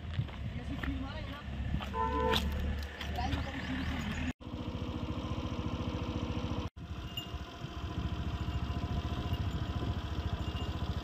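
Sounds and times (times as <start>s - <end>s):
engine idling: 2.0s - 11.0s.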